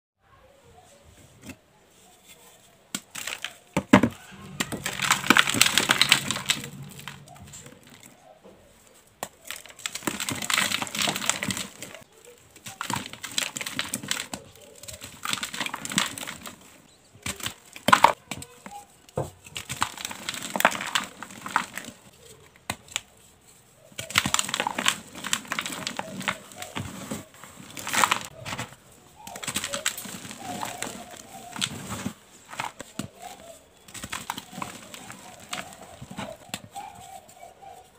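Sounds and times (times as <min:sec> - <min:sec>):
chalk crunching and crumbling: 0:01.0 - 0:37.9
sharp chalk cracks: 0:01.4 - 0:08.2, 0:08.9 - 0:37.9.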